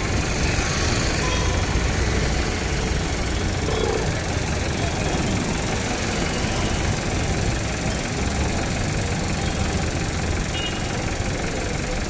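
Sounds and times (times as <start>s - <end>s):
jeep engine low rumble: 0.0s - 12.0s.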